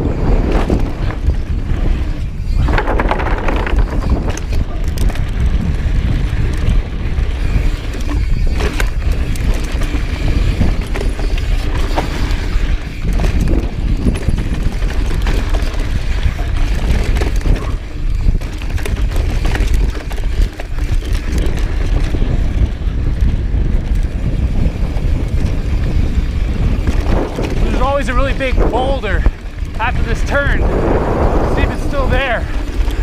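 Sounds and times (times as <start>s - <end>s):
bike rattling with clicks and knocks: 0.0s - 33.0s
wind rumbling on microphone: 0.0s - 33.0s.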